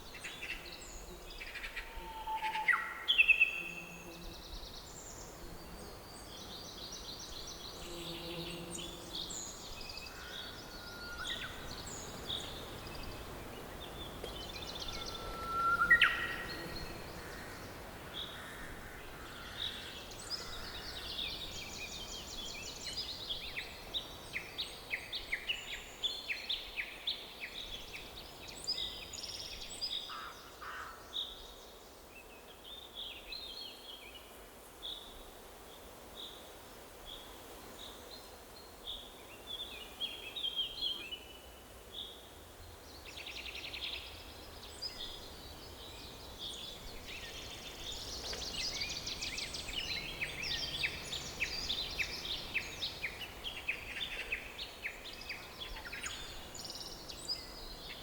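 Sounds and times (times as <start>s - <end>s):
faint background noise: 0.0s - 58.0s.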